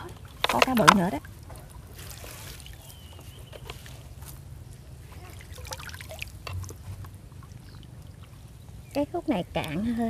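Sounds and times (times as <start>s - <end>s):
low steady rumble: 0.0s - 10.0s
small splashes: 0.0s - 10.0s
water trickling and dripping: 0.0s - 10.0s.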